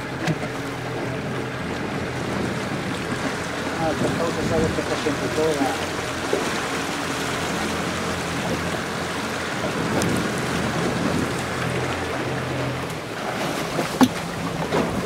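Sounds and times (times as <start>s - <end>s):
motorboat engine humming: 0.0s - 15.0s
wind: 0.0s - 15.0s.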